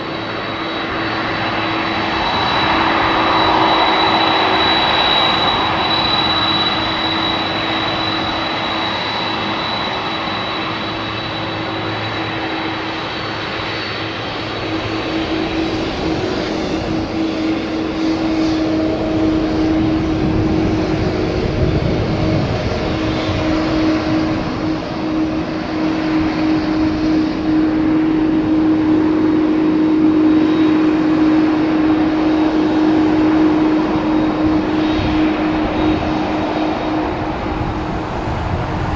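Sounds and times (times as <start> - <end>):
jet airliner passing overhead: 0.0 - 38.9.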